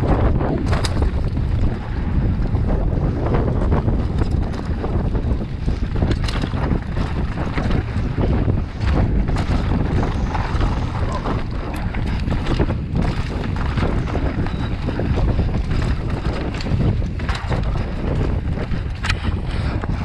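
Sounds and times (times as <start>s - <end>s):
bike knocks and rattles: 0.0s - 20.0s
tyres rumbling on dirt: 0.0s - 20.0s
wind on microphone: 0.0s - 20.0s.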